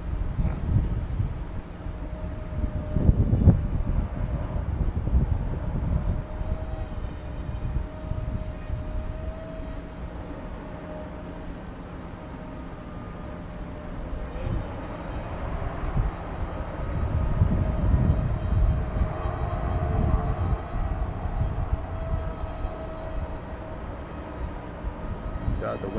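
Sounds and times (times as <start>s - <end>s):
model airplane motor whining: 0.0s - 25.9s
wind rumbling on microphone: 0.0s - 25.9s.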